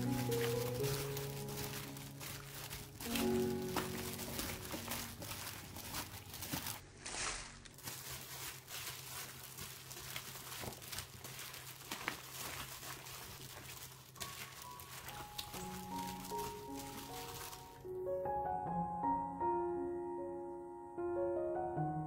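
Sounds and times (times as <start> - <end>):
wet squishing of food: 0.0 - 17.8
plastic glove crinkling: 0.0 - 17.9.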